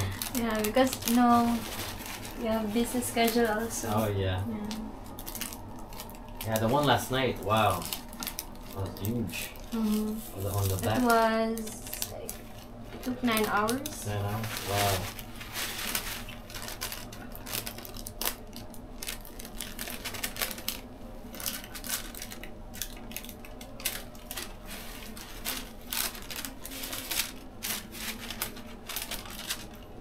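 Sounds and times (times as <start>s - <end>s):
paper crinkling and rustling: 0.0s - 30.0s.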